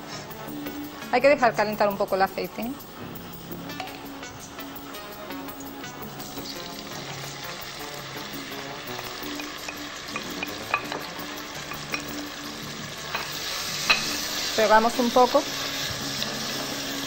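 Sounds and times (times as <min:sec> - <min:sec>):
pepper sizzling in hot oil: 0:00.0 - 0:17.0.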